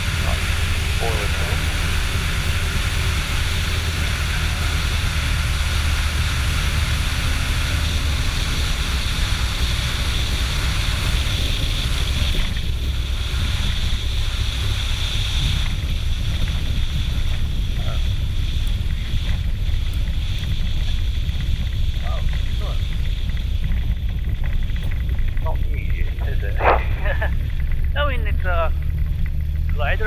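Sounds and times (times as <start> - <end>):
glider cockpit airflow rumble: 0.0 - 30.0
wind hiss: 0.0 - 30.0.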